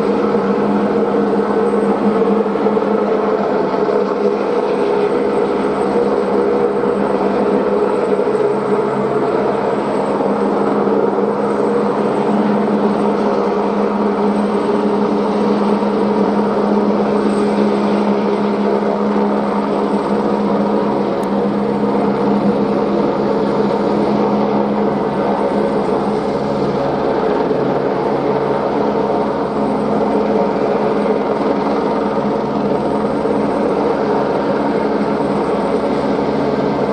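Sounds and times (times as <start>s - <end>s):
helicopter rotor and engine: 0.0s - 36.9s.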